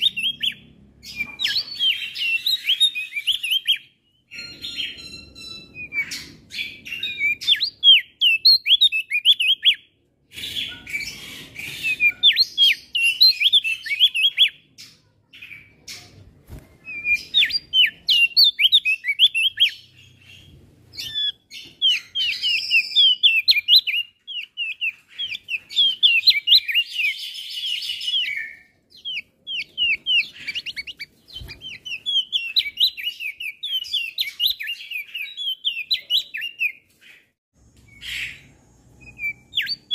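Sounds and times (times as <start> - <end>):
bird singing high chirps: 0.0 - 16.1, 16.8 - 39.9.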